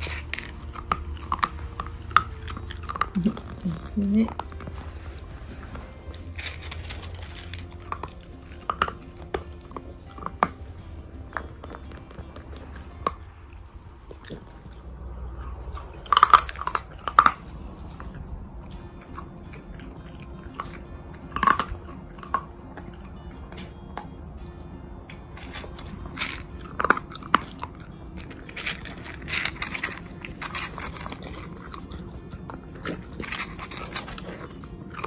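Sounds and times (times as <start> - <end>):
puppy crunching dry food: 0.0 - 35.0.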